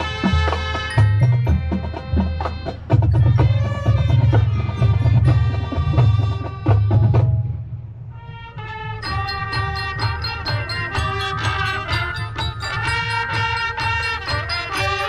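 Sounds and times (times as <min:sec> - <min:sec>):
sharp percussion strokes: 0:00.0 - 0:07.8, 0:08.6 - 0:15.0
marching band playing: 0:00.0 - 0:15.0.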